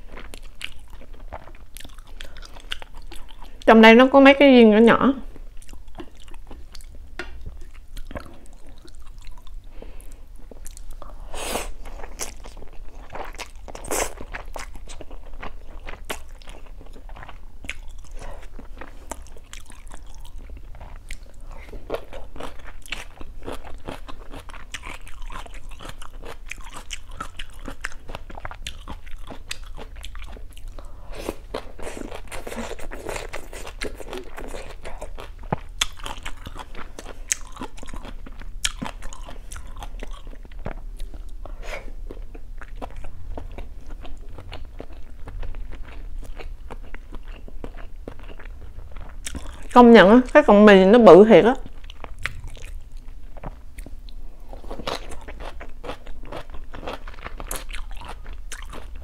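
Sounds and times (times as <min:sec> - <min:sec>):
person chewing noodles: 0:00.0 - 0:03.7, 0:05.3 - 0:49.8, 0:51.6 - 0:59.0.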